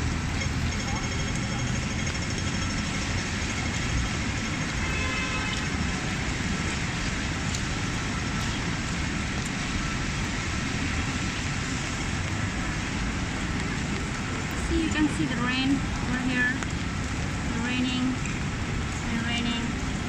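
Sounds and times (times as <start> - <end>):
rain hissing on wet roads: 0.0 - 20.0
traffic running: 0.0 - 20.0.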